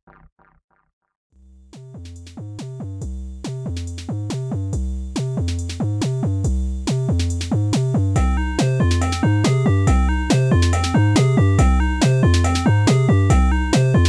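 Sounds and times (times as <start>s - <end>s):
bass notes: 1.4s - 14.0s
background music with drum beat: 1.6s - 14.0s.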